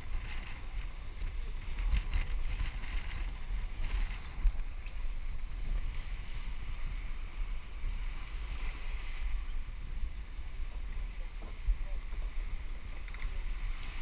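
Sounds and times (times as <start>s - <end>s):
waves splashing along hull: 0.0s - 14.0s
wind buffeting microphone: 0.0s - 14.0s.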